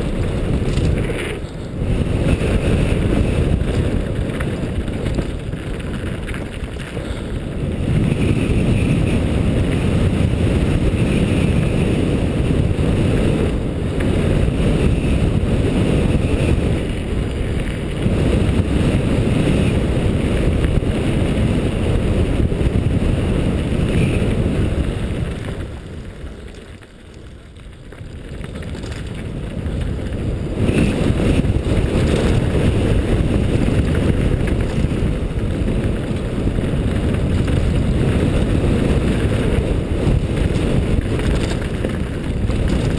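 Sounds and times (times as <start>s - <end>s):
bike rattling over gravel: 0.0s - 42.9s
wind on camera microphone: 0.0s - 42.9s.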